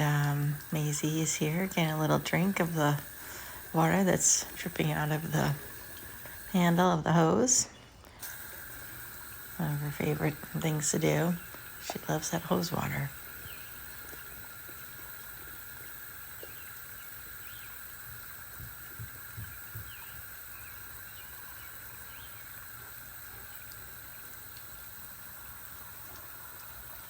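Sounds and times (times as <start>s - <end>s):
outdoor background hiss: 0.0s - 27.0s.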